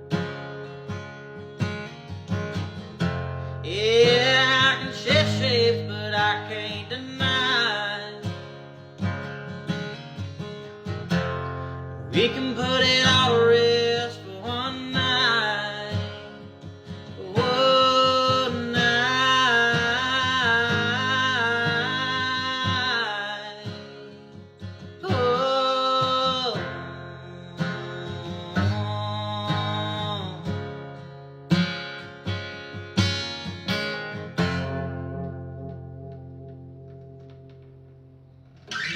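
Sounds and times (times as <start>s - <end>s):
plucked acoustic guitar music: 0.0s - 38.9s.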